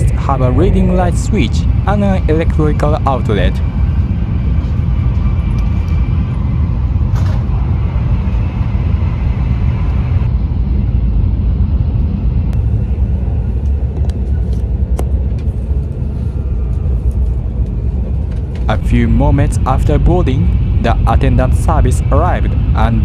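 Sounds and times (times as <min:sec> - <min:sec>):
train running low rumble: 0:00.0 - 0:23.0.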